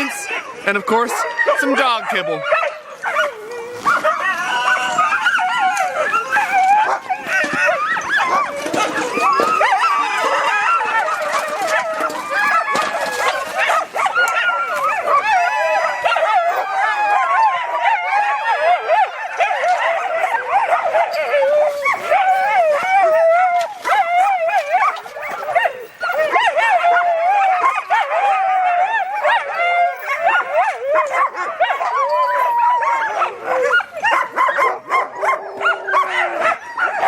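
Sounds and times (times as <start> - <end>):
dogs howling and barking: 0.0 - 37.0.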